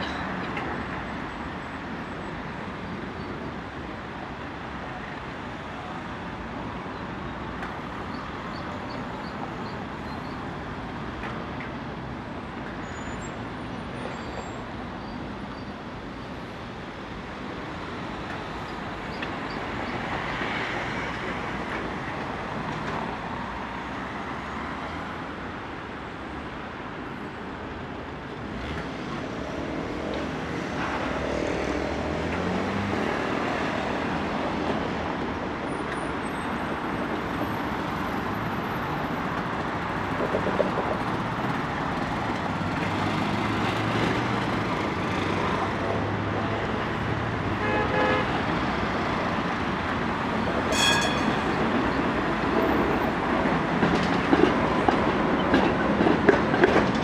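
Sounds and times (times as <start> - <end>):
city road traffic: 0.0 - 57.0.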